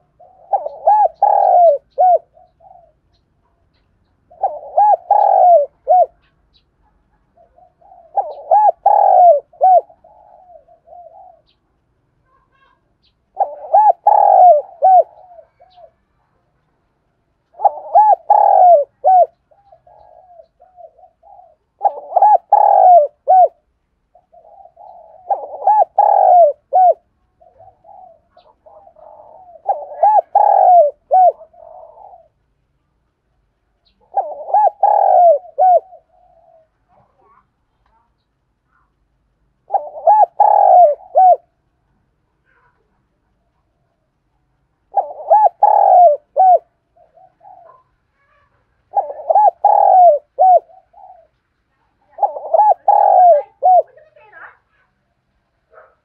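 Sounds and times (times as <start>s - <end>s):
dove cooing: 0.0s - 11.7s, 12.3s - 16.5s, 17.4s - 32.6s, 33.6s - 39.0s, 39.6s - 41.7s, 42.4s - 54.9s, 55.6s - 56.0s.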